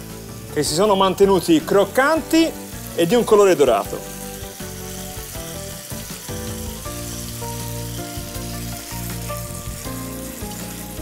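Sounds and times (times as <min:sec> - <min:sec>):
food sizzling in frying pan: 0:00.0 - 0:11.0
soft background music: 0:00.0 - 0:11.0.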